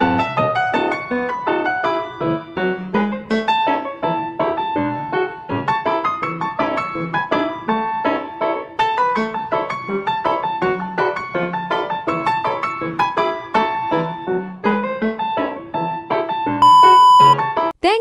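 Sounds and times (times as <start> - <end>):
brisk piano music: 0.0 - 17.8.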